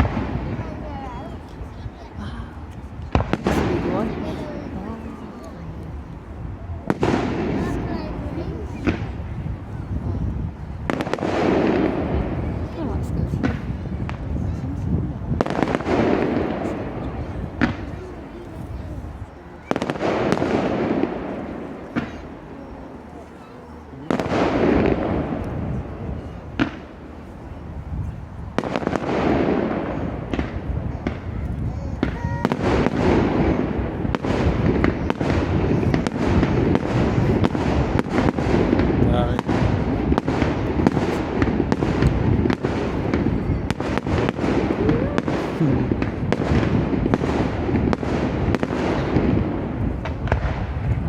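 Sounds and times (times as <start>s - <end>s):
fireworks bangs: 0.0s - 51.0s
rumble of explosions: 0.0s - 51.0s.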